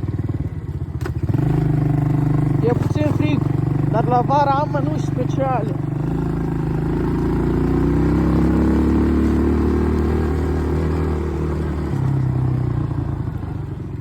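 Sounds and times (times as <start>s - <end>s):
all-terrain vehicle engine running: 0.0s - 14.0s.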